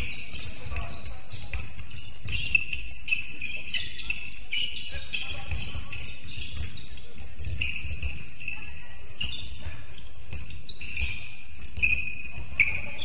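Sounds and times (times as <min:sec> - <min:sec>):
basketball bouncing: 0:00.0 - 0:13.0
sneakers squeaking on floor: 0:00.0 - 0:13.0.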